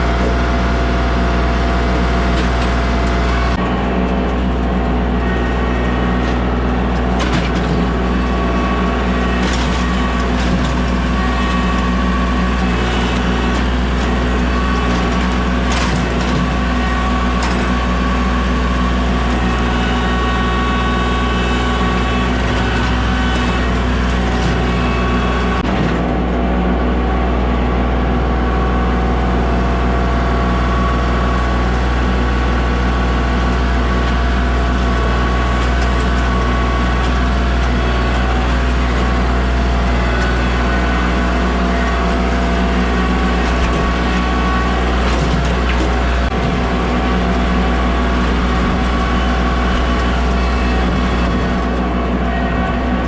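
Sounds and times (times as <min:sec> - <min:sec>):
large engine droning: 0:00.0 - 0:53.0.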